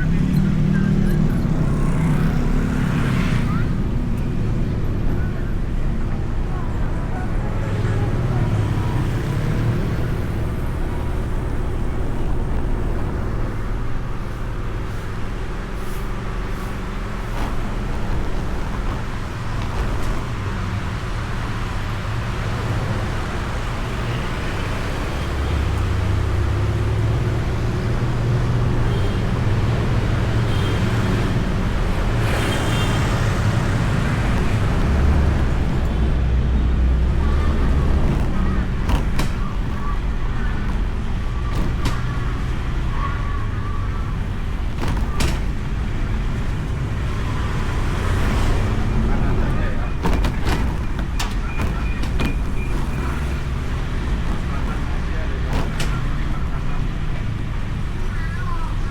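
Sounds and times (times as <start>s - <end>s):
road and traffic noise: 0.0s - 58.9s.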